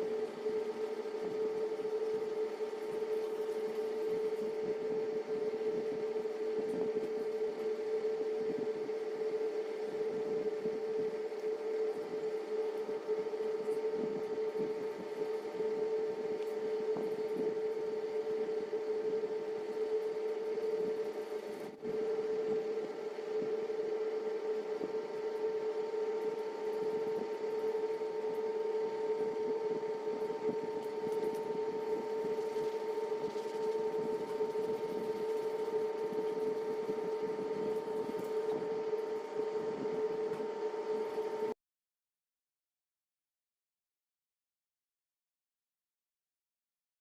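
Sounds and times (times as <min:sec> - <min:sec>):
steady machine hum: 0:00.0 - 0:41.6.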